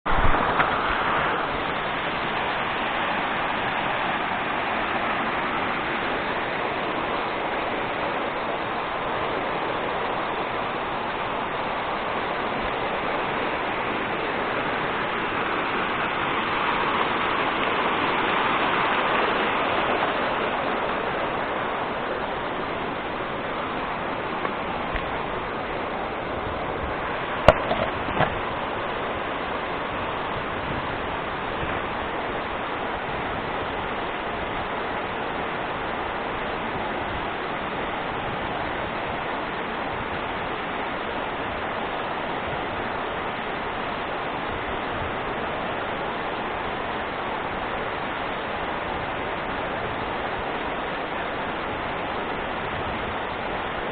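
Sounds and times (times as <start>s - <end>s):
waterfall rushing: 0.1s - 53.9s.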